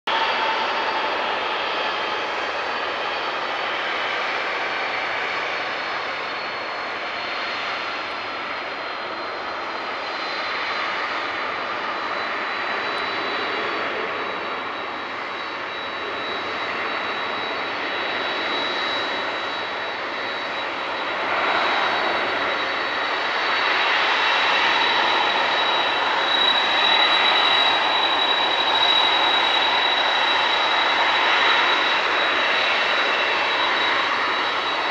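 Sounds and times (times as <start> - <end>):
jet engines taxiing: 0.1 - 34.9.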